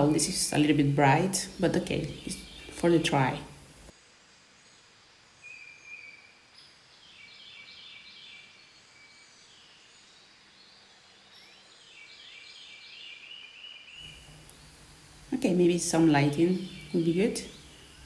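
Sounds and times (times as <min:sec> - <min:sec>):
bird chirping: 0:00.0 - 0:03.9, 0:04.6 - 0:18.0.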